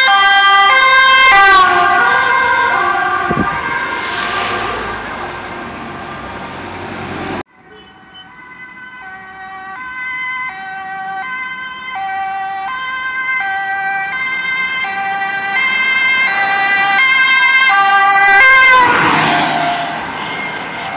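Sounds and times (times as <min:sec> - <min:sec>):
two-tone ambulance siren: 0:00.0 - 0:20.9
engine and tyre noise passing: 0:00.2 - 0:20.9.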